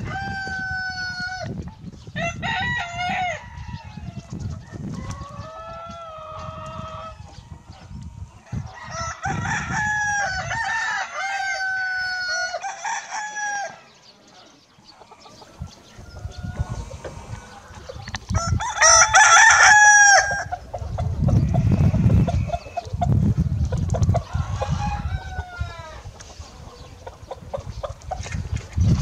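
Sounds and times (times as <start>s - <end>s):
roosters crowing: 0.0s - 28.4s.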